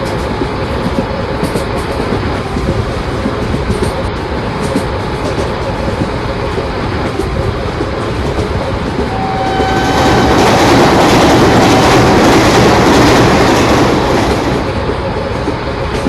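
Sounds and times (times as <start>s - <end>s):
train passing close by: 0.0s - 16.0s.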